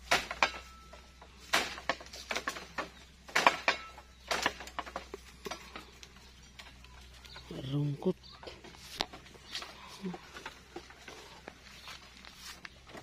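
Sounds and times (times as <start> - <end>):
bamboo stems cracking: 0.0 - 7.7, 8.4 - 13.0.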